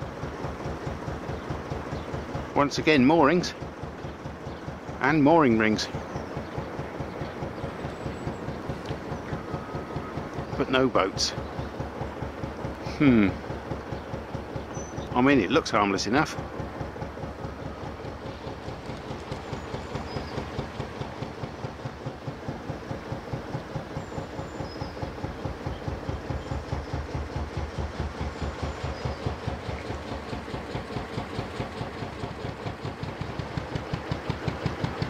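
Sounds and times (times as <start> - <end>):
slow-revving boat engine: 0.0 - 35.0.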